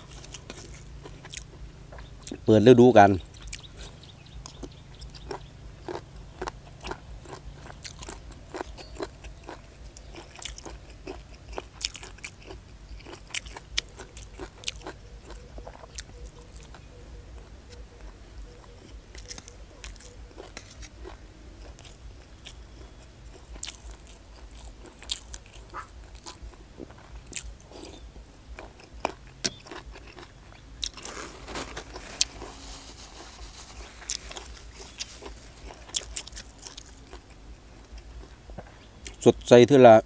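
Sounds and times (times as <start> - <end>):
crisp crunchy chewing: 0.0 - 39.5.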